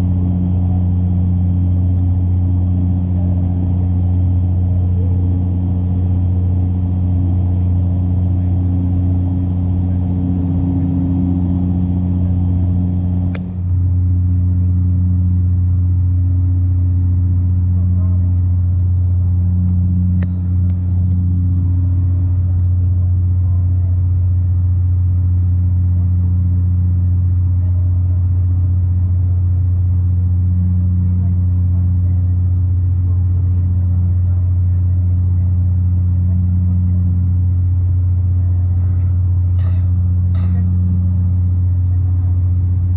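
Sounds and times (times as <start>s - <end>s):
propeller drone in cabin: 0.0s - 42.9s.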